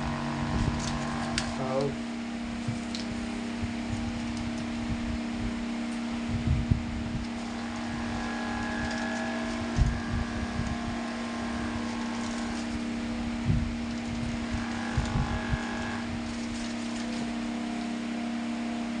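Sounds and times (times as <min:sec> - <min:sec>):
fan motor hum with airflow: 0:00.0 - 0:19.0.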